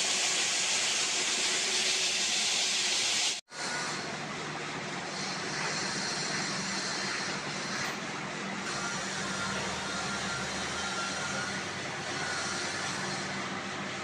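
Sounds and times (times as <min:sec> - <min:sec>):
hissing machinery noise: 0:00.0 - 0:14.0.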